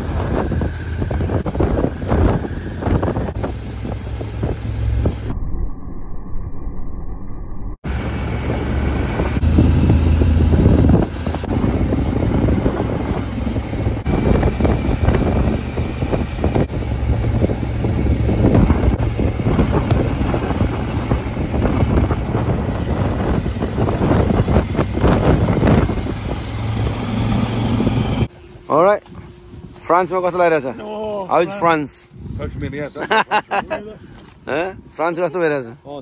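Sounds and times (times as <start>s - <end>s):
wind buffeting microphone: 0.0s - 5.5s, 7.8s - 29.8s, 31.5s - 33.2s
motorcycle engine drone: 0.0s - 31.4s.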